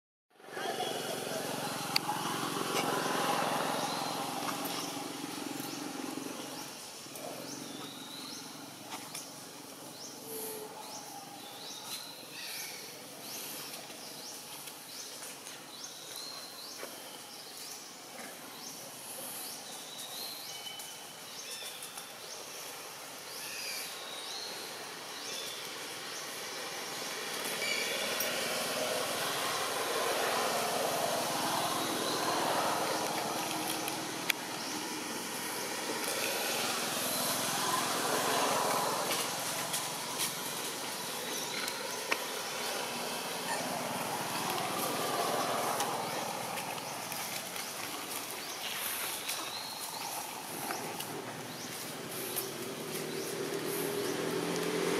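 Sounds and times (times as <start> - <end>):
traffic noise: 0.3 - 54.9.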